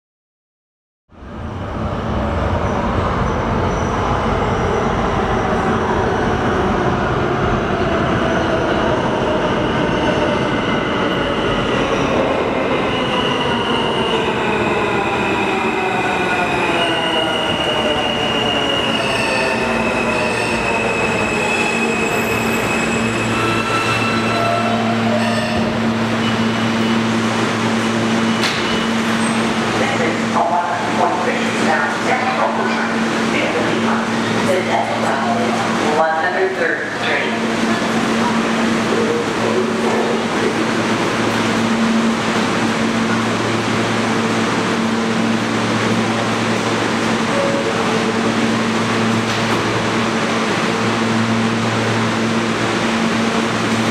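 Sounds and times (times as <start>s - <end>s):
subway train motors whining: 1.1s - 53.9s.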